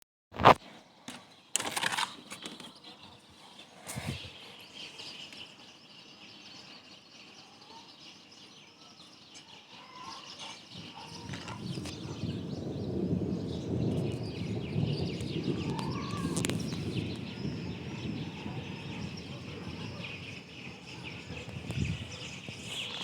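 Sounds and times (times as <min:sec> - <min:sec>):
steady outdoor hiss: 0:00.6 - 0:23.0
faint bird chirps: 0:02.1 - 0:23.0.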